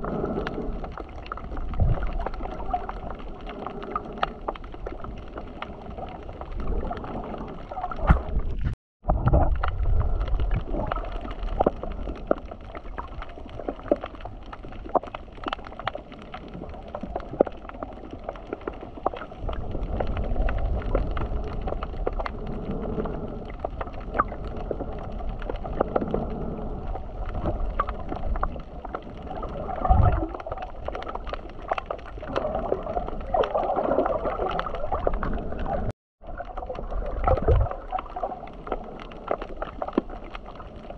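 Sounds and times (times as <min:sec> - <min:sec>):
sea water sloshing and gurgling: 0:00.0 - 0:40.9.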